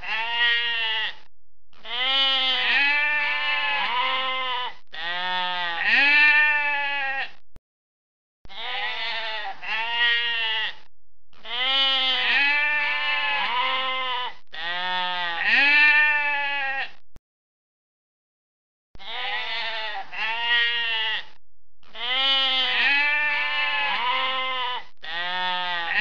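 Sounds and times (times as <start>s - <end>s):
sheep bleating: 0.0s - 7.4s, 8.5s - 17.0s, 19.0s - 26.0s.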